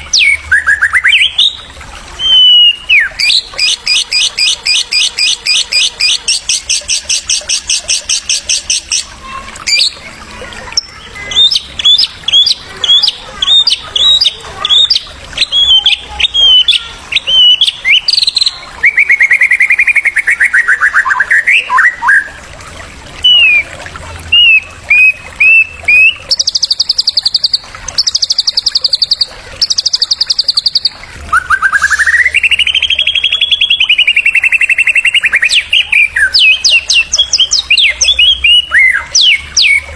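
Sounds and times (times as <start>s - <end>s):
songbird song: 0.0s - 22.4s, 23.2s - 39.9s.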